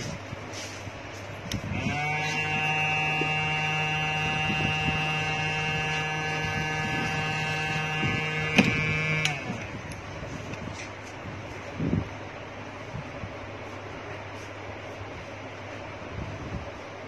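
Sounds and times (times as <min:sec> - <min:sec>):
hot air gun whining hum: 0:00.0 - 0:16.1.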